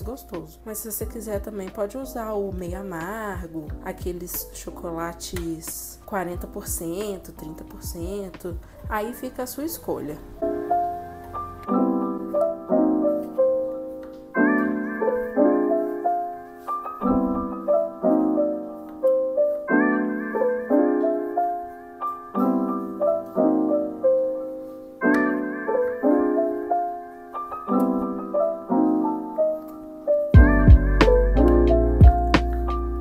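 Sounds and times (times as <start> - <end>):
soft piano chords with melody: 0.0 - 33.0.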